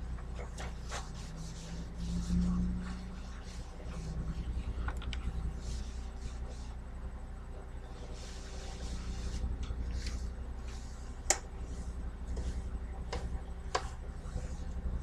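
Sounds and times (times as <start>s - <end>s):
steady low hum: 0.0s - 15.0s
cloth wiping stovetop: 0.2s - 6.8s, 7.8s - 15.0s.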